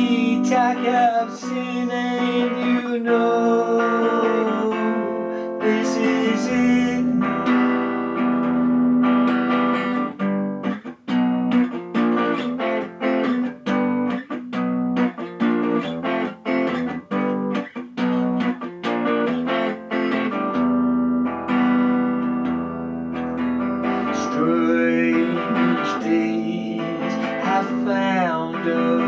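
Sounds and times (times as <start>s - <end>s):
guitar playing instrumental: 0.0s - 29.0s.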